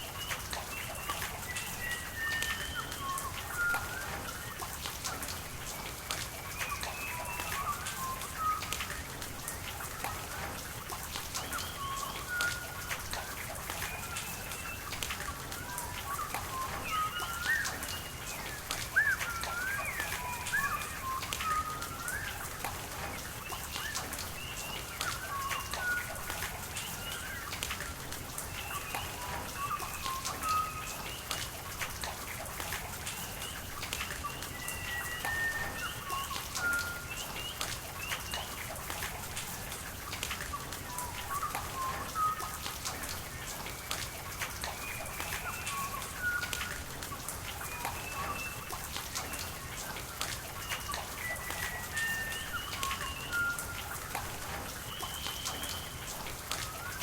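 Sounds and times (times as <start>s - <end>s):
birds whistling and chirping: 0.0s - 57.0s
steady rain: 0.0s - 57.0s.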